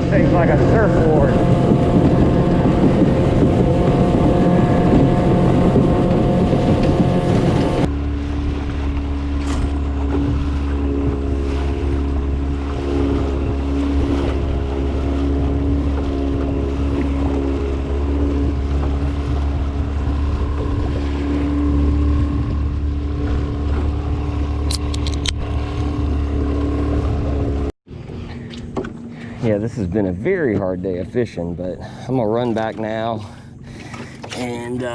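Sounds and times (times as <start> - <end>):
outboard motor running: 0.0 - 34.9
wind and water rushing: 0.0 - 34.9.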